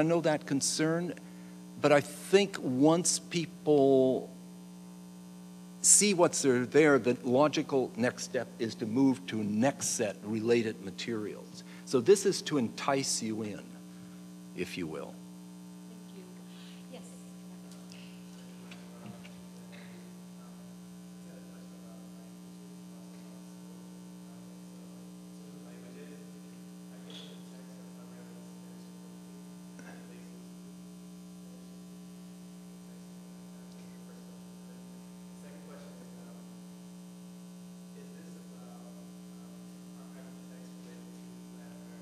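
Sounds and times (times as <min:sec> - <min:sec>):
electrical mains hum: 0:00.0 - 0:42.0.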